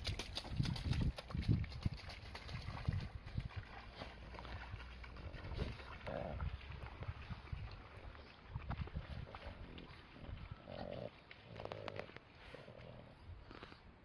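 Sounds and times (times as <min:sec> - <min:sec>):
footsteps splashing through puddles: 0:00.0 - 0:12.5.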